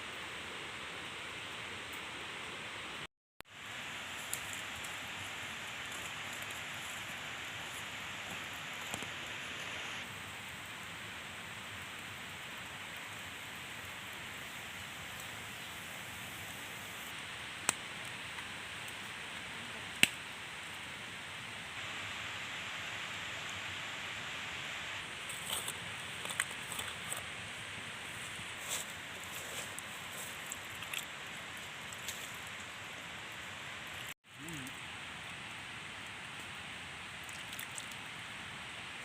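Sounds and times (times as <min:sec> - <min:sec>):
steady hiss: 0:00.0 - 0:39.0.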